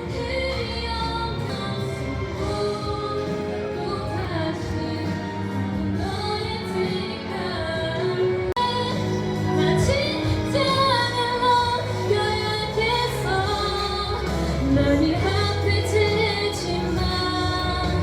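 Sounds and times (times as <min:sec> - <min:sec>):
pop song with female vocal: 0:00.0 - 0:18.0.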